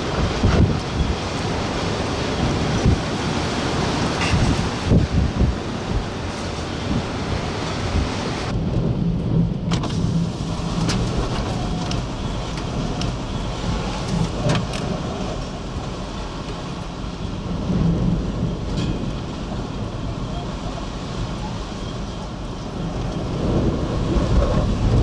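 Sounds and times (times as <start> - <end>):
gusting wind rumble: 0.0 - 25.0.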